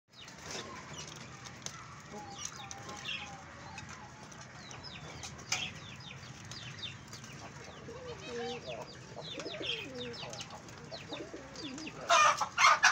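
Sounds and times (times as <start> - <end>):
birds chirping and twittering: 0.1 - 12.9
low bird calls: 0.1 - 12.9.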